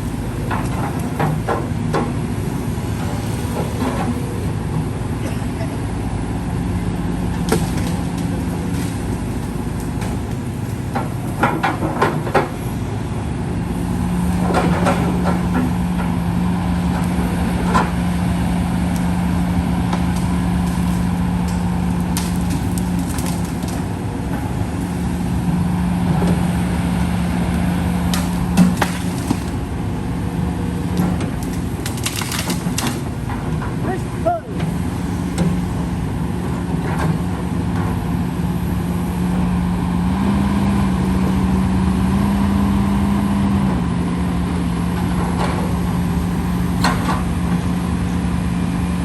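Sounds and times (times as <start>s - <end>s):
excavator diesel engine: 0.0s - 49.0s.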